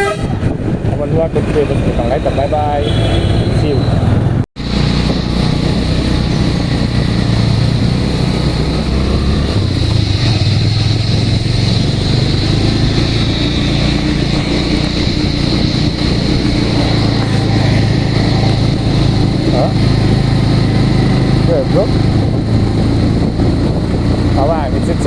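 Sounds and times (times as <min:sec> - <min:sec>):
road noise: 0:00.0 - 0:25.0
wind noise: 0:00.0 - 0:25.0
vehicle engine running: 0:01.1 - 0:25.0.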